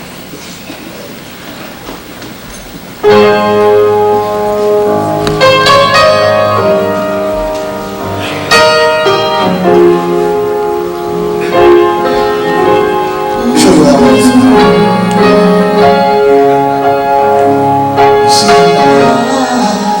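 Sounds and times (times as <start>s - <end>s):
live gospel music chords: 0.0s - 20.0s.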